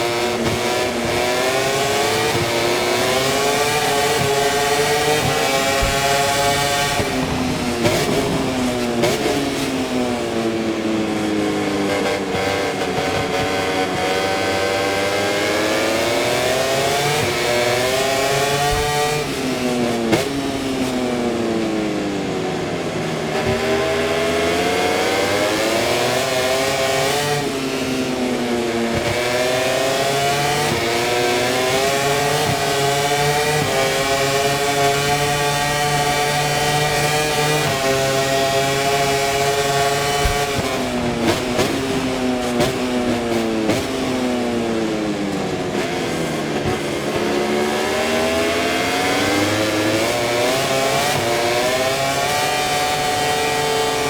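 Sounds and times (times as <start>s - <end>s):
racing motorcycle engine: 0.0s - 54.0s.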